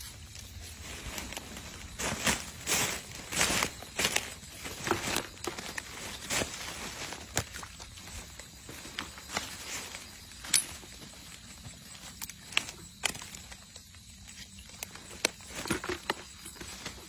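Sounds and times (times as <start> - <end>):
rustling in mud and leaves: 0.0 - 17.0.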